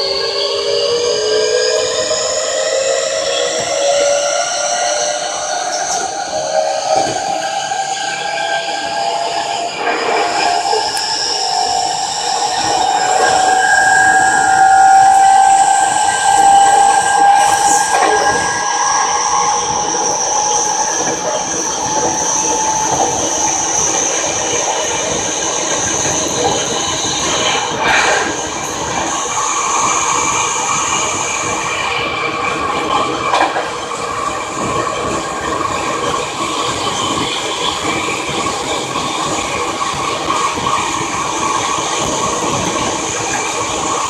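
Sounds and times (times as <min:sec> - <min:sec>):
electric train motor whine: 0:00.0 - 0:44.0
train wheels rolling on rails: 0:00.0 - 0:44.0.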